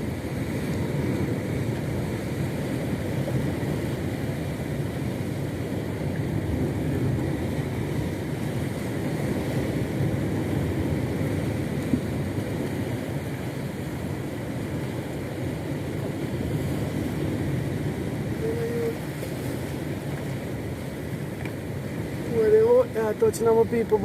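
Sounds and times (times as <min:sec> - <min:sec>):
outboard motor running: 0:00.0 - 0:24.0
water noise: 0:00.0 - 0:24.0
wind: 0:00.0 - 0:24.0.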